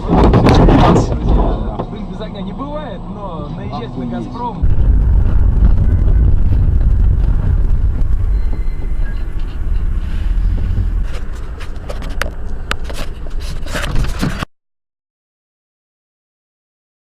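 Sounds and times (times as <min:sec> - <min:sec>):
vehicle road and engine rumble: 0:00.0 - 0:14.5.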